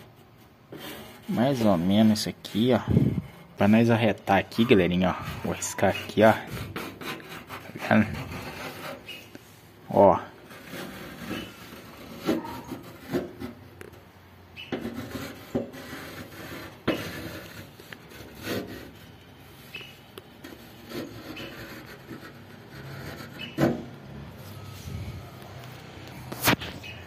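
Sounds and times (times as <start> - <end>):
pencil scratching on sheet metal: 0.0 - 14.0, 14.6 - 23.9.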